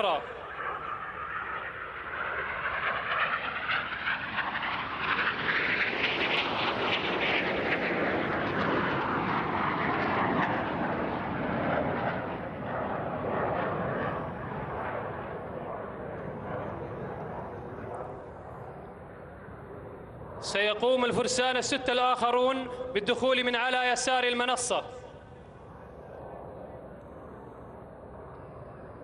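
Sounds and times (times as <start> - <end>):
jet flying past: 0.0 - 29.0.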